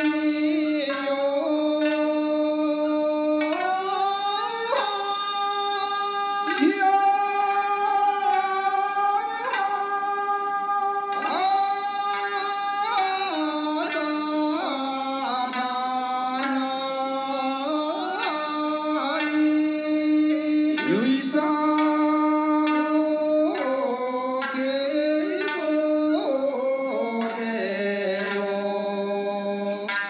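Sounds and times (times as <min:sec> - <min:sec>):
bamboo flute: 0:00.0 - 0:20.0, 0:20.7 - 0:28.7
plucked lutes: 0:00.0 - 0:29.0.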